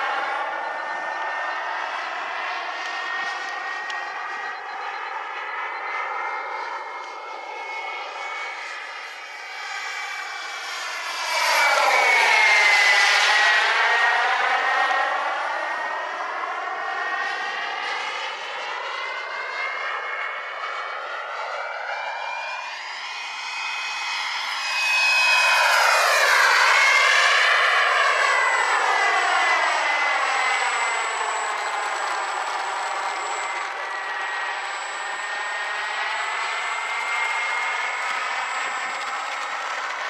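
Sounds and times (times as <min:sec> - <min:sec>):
model jet engine whining: 0:00.0 - 0:40.0.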